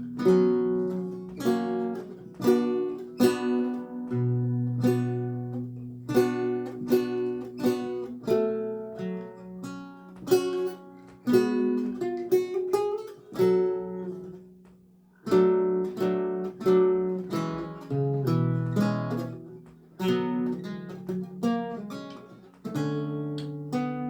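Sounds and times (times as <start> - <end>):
solo lute playing: 0.0 - 14.6, 15.2 - 24.0.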